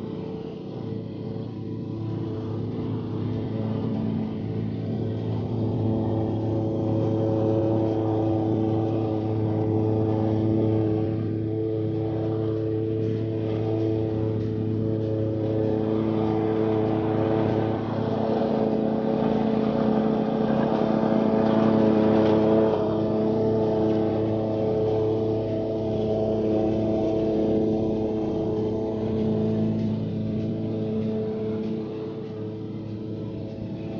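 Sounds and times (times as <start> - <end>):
lawn mower engine running: 3.0 - 33.9.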